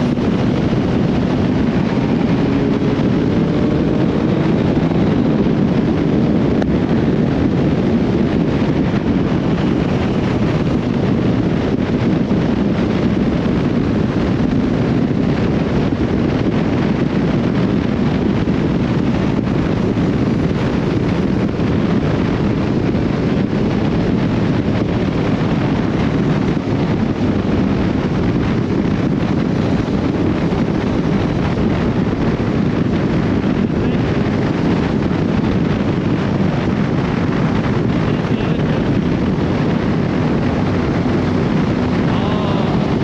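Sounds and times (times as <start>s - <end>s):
motorcycle engine rumble: 0.0s - 43.0s
road noise: 0.0s - 43.0s
wind rushing over microphone: 0.0s - 43.0s.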